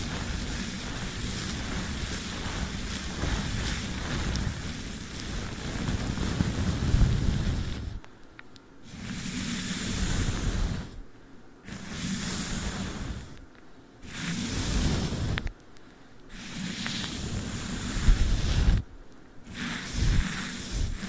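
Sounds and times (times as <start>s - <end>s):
brush swishing over sticky tape: 0.0s - 8.0s, 8.9s - 11.0s, 11.7s - 13.4s, 14.0s - 15.5s, 16.3s - 18.9s, 19.5s - 21.0s.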